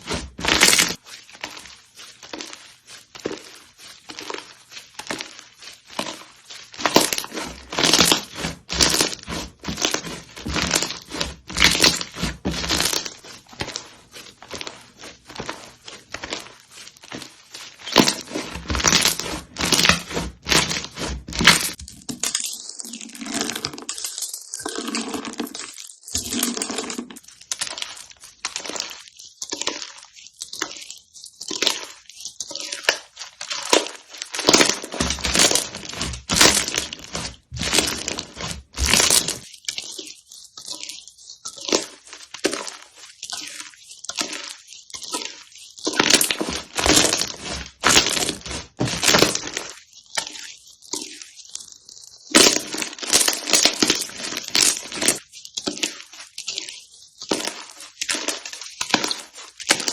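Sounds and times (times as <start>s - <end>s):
slime crackling: 0.0s - 59.9s.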